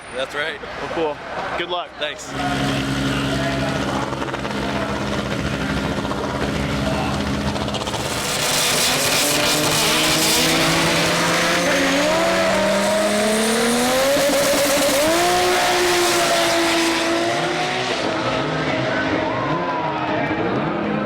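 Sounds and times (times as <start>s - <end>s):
race car engine accelerating: 2.3s - 21.0s.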